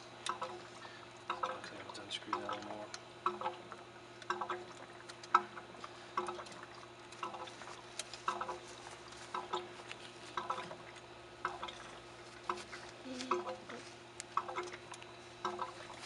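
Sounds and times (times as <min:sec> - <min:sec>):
faint steady hum: 0:00.0 - 0:16.0
water dripping: 0:00.2 - 0:16.0.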